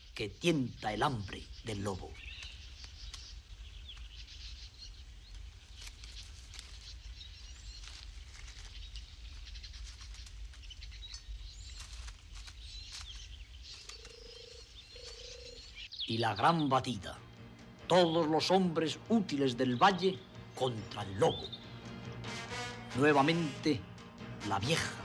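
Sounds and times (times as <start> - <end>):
small birds chirping: 0.0 - 25.0
brush and twigs rustling: 0.8 - 25.0.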